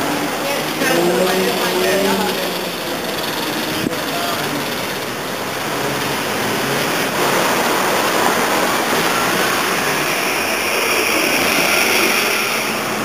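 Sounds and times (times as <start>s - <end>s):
street traffic noise: 0.0s - 13.0s
tram passing with high whine: 0.0s - 13.0s.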